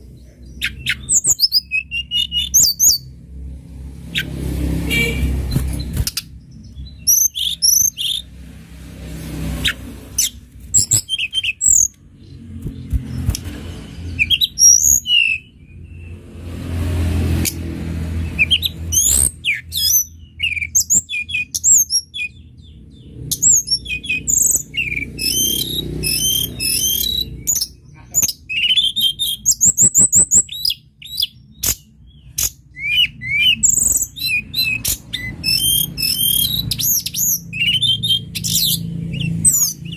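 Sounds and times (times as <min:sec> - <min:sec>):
bird singing chirps and trills: 0:00.0 - 0:03.2, 0:04.0 - 0:39.9.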